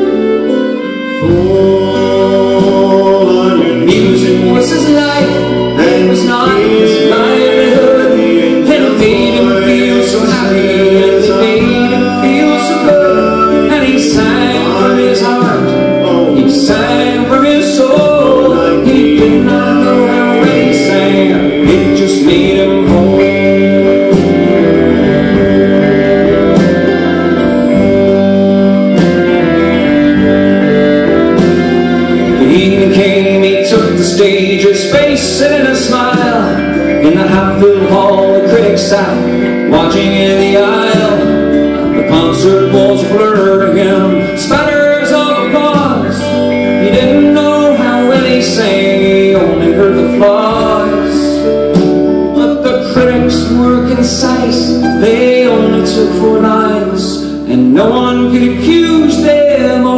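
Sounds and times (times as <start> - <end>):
live band music: 0.0 - 59.9
man singing: 0.0 - 59.9.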